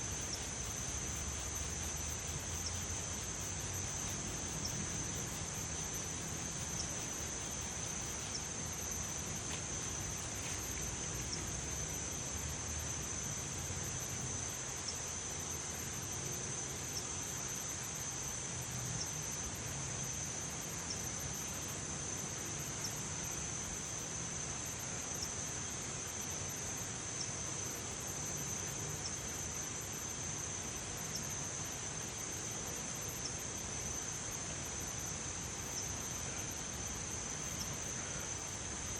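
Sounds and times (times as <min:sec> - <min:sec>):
crickets trilling: 0:00.0 - 0:38.9
low outdoor background hum: 0:00.0 - 0:38.9.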